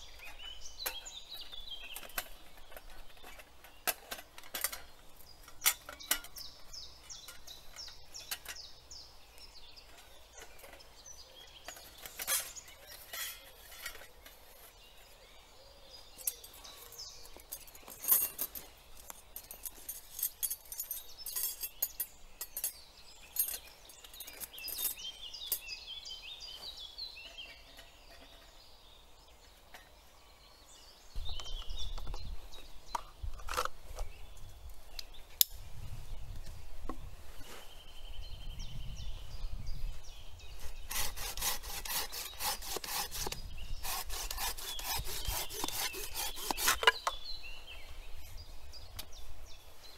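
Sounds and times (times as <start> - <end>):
birds singing: 0.0 - 49.9.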